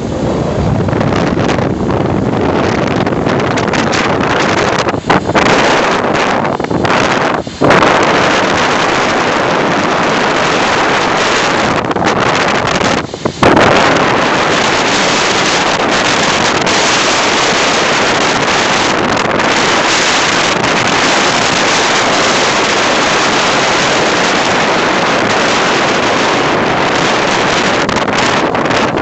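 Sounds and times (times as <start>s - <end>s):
surf breaking on sea wall: 0.0s - 29.0s
wind buffeting microphone: 0.0s - 29.0s.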